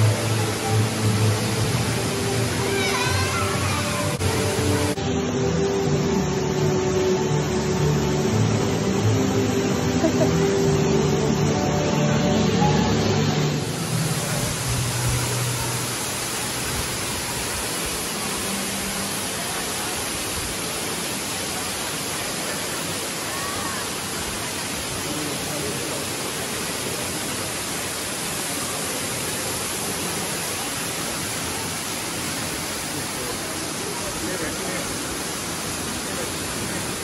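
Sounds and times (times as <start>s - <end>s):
waterfall pouring into pool: 0.0s - 37.0s.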